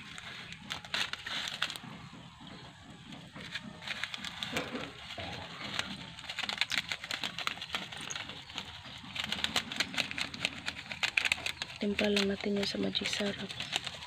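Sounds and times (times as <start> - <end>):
shellfish pot crackling and boiling: 0.0 - 14.0.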